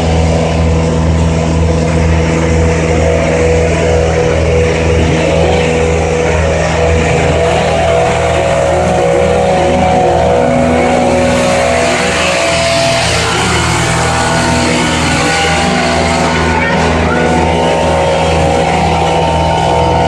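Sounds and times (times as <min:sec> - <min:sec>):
loud engine running: 0:00.0 - 0:20.0.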